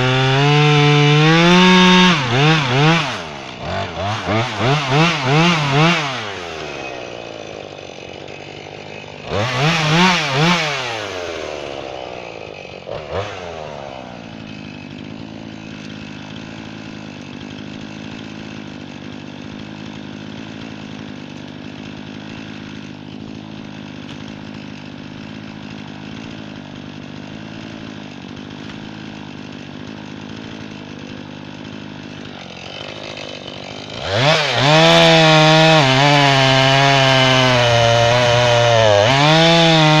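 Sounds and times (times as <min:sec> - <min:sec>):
chainsaw revving and idling: 0:00.0 - 0:40.0.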